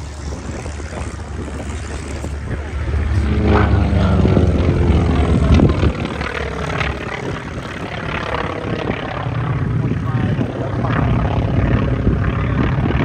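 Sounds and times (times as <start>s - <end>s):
propeller airplane engine: 0.0s - 13.0s.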